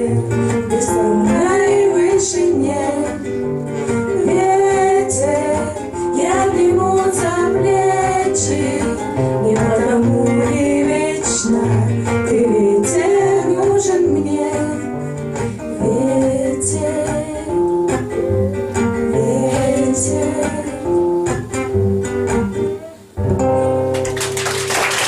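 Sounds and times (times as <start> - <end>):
women singing: 0.0 - 21.5
acoustic guitar: 0.0 - 25.0.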